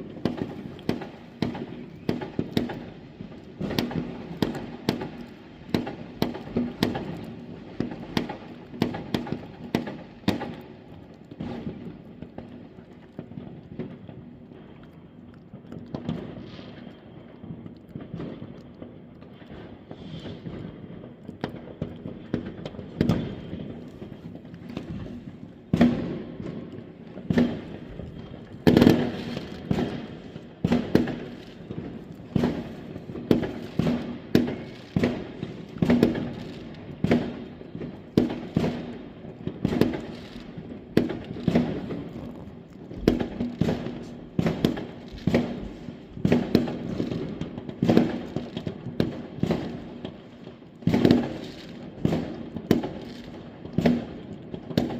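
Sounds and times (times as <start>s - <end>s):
fireworks bangs echoing: 0.0s - 14.9s, 15.9s - 54.9s.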